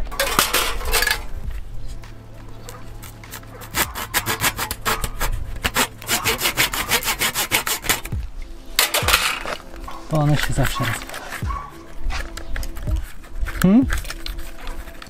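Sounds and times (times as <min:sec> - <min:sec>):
rhythmic scraping on wooden board: 0:00.0 - 0:15.0.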